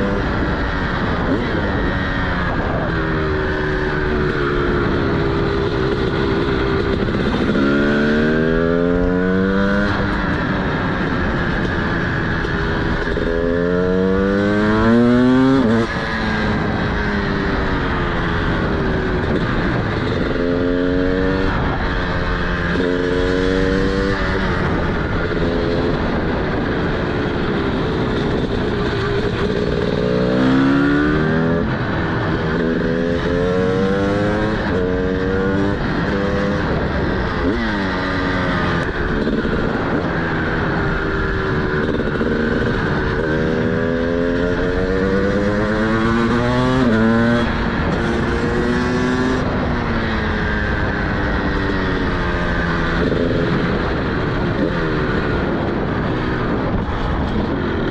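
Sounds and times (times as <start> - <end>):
two-stroke motorcycle engine revving: 0.0 - 57.9.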